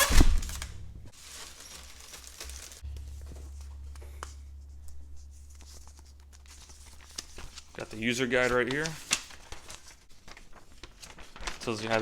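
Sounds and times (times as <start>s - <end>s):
packaging rustling: 0.0s - 3.8s, 5.6s - 12.0s.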